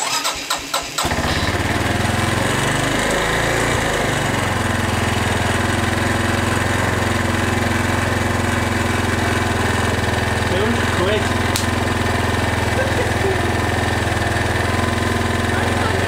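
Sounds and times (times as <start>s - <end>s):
quad engine idling: 0.0s - 16.0s.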